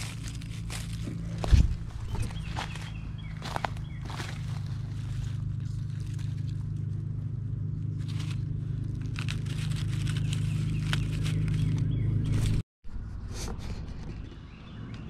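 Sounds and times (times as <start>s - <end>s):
dry leaves crackling and rustling: 0.0s - 12.6s
steady low rumble: 0.0s - 15.0s.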